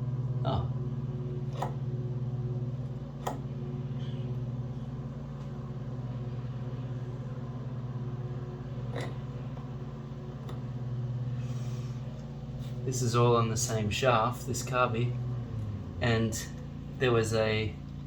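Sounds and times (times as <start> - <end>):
lawnmower engine idling: 0.0 - 18.0.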